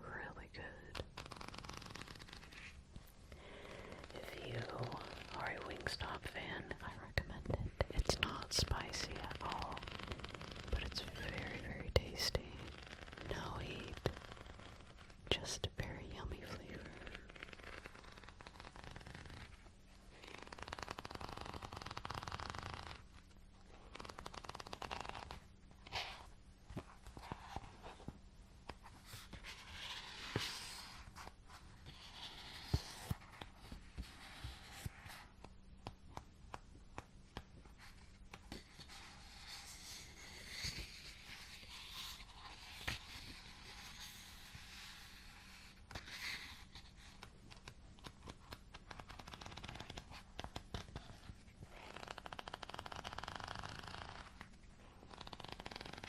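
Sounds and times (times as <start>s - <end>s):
soft scratching and rustling: 0.6s - 56.0s.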